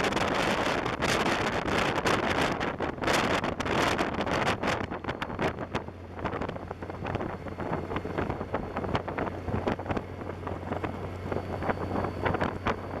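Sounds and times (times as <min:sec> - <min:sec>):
motorcycle engine drone: 0:00.0 - 0:13.0
wind buffeting microphone: 0:00.0 - 0:13.0.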